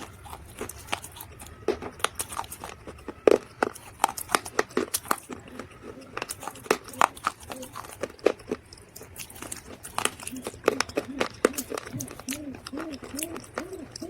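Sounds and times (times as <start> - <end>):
dried mud crunching: 0.0 - 14.0.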